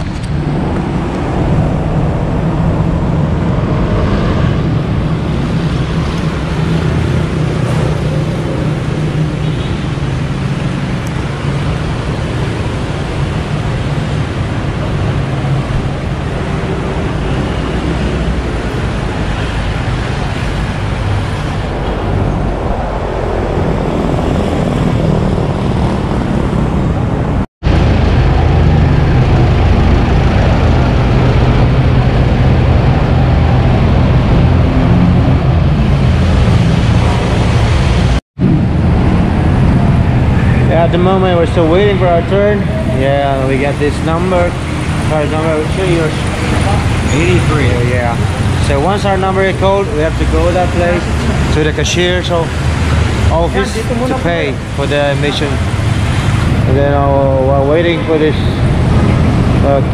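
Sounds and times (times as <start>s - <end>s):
traffic noise: 0.0s - 59.9s
vehicle engines idling: 0.0s - 59.9s.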